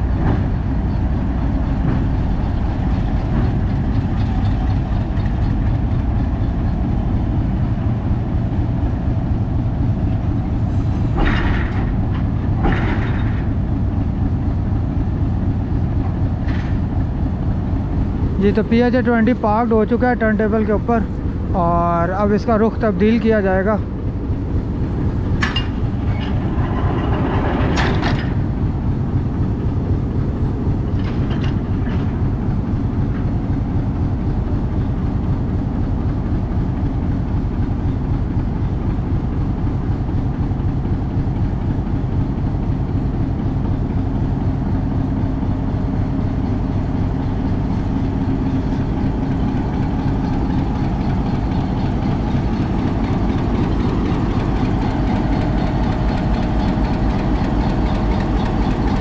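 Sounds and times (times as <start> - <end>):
diesel locomotive idling: 0.0 - 59.0.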